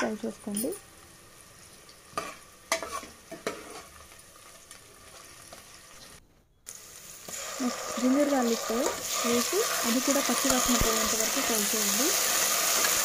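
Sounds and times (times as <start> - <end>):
faint oil sizzle: 0.0 - 13.0.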